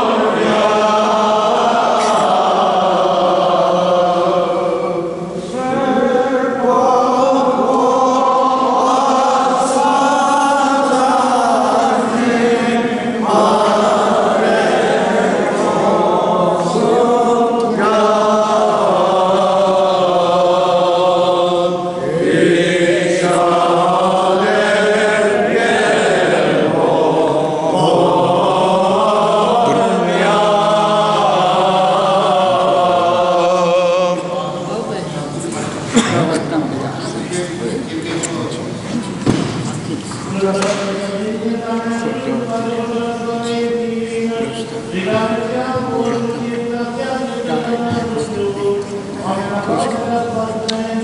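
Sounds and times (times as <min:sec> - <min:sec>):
choir chanting a hymn: 0:00.0 - 0:39.6, 0:40.3 - 0:51.0.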